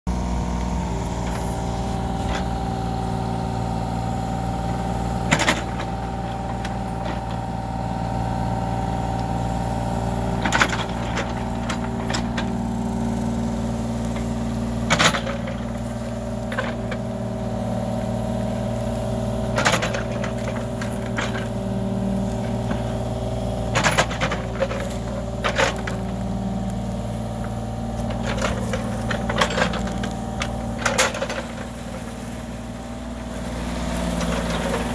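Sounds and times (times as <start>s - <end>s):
diesel engine running: 0.1s - 34.9s
bucket and arm linkage clanking: 4.6s - 8.0s, 10.2s - 34.9s.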